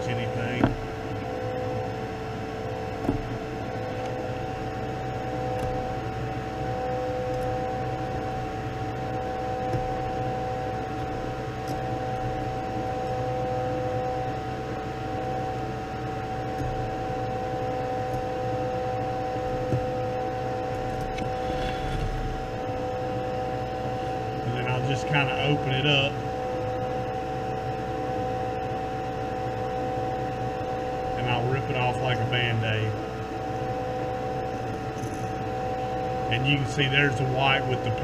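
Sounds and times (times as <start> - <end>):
exhaust fan humming: 0.0 - 38.0.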